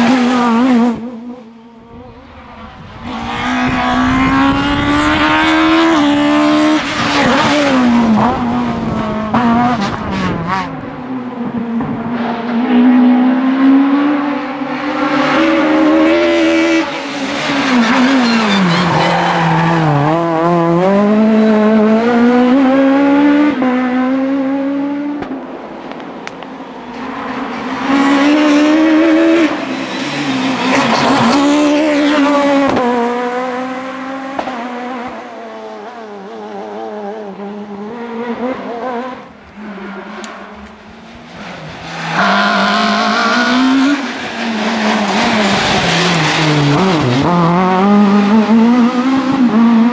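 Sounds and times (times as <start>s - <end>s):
rally car engines passing: 0.0s - 49.9s.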